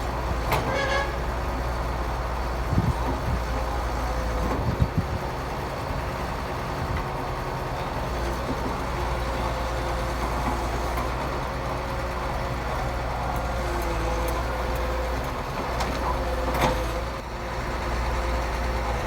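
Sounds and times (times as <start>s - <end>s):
heavy diesel engine droning: 0.0s - 19.0s.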